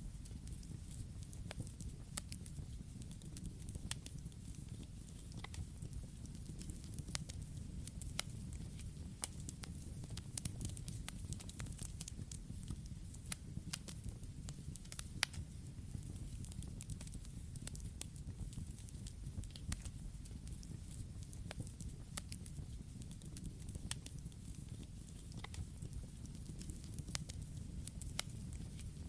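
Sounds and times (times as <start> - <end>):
fire crackles and pops: 0.0 - 29.0
rush of campfire flames: 0.1 - 29.0.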